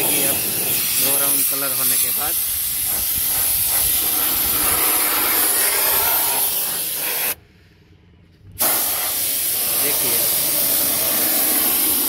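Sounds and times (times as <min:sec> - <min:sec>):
paint spray gun hissing: 0:00.0 - 0:07.4, 0:08.6 - 0:12.0.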